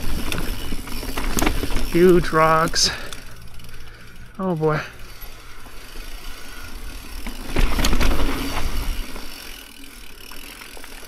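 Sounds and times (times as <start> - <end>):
bike rattling over rocks: 0.0 - 11.0.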